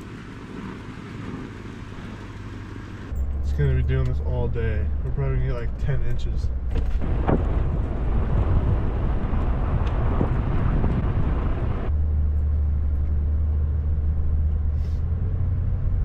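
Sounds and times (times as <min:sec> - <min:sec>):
low engine rumble: 0:00.0 - 0:16.0
tyre and road noise: 0:00.0 - 0:16.0.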